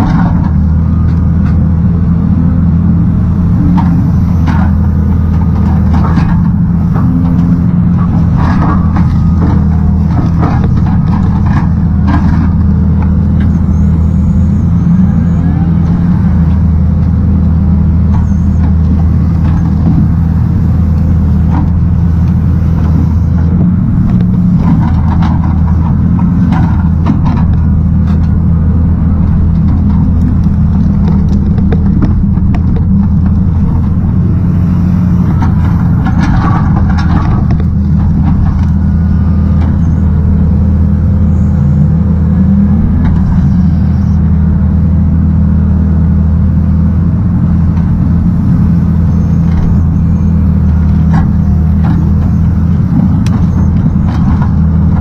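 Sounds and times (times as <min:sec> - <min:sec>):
log loader engine running: 0:00.0 - 0:55.0.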